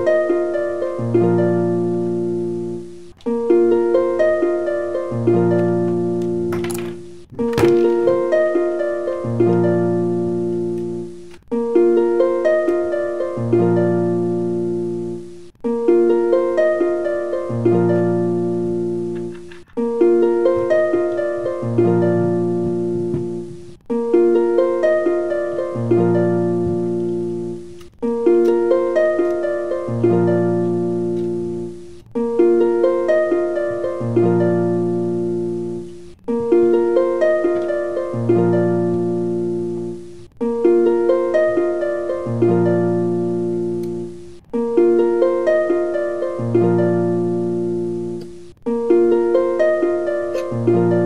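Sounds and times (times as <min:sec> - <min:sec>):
looping plucked melody: 0:00.0 - 0:51.0.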